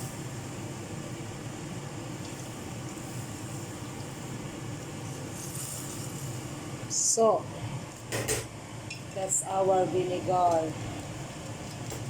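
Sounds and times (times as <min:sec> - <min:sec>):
pot simmering and bubbling: 0:00.0 - 0:12.0.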